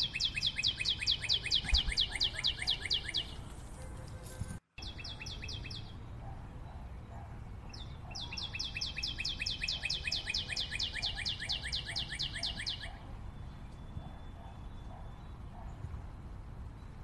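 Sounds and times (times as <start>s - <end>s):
bird trilling chirps: 0.0s - 3.5s, 4.8s - 15.9s.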